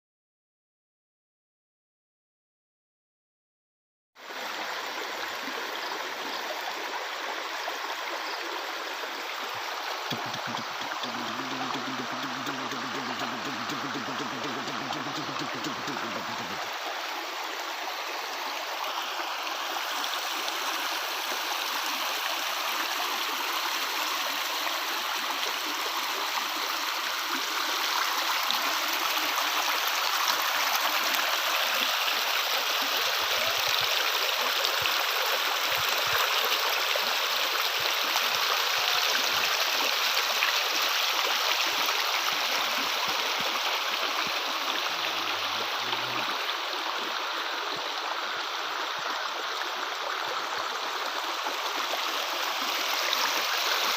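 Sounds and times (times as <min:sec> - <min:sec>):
water rushing over rocks: 0:08.7 - 0:53.9.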